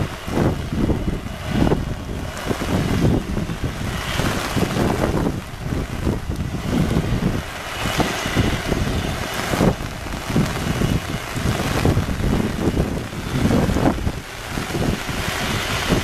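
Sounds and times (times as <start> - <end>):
heavy rain hiss: 0.0 - 16.0
wind buffeting microphone: 0.0 - 16.0.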